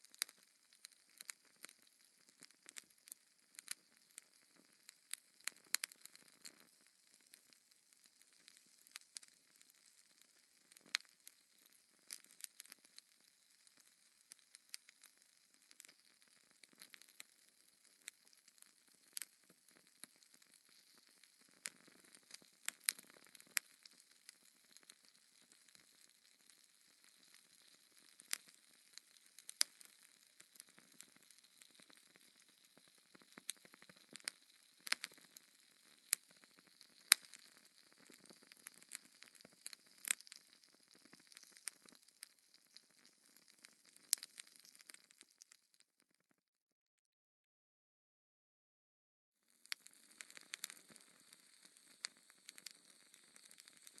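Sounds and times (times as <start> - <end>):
wood fire crackling: 0.1 - 45.8, 49.7 - 54.0.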